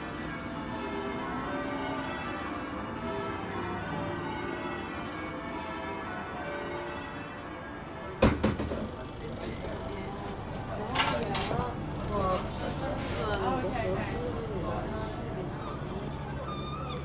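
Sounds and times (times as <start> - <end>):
church bells ringing: 0.0 - 8.2, 8.9 - 17.0.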